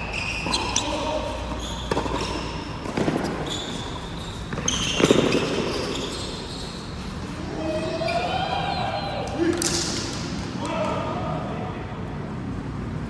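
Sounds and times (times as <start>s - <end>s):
shoes squeaking on court floor: 0.0s - 10.6s.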